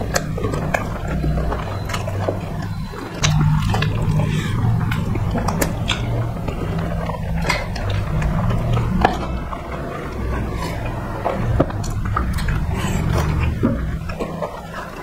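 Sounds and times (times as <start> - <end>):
chewing and lip smacks: 0.0 - 15.0
steady low hum: 0.0 - 15.0.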